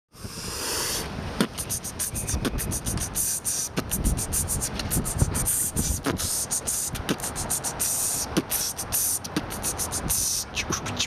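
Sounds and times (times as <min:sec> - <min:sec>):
person beatboxing: 0:00.3 - 0:11.0.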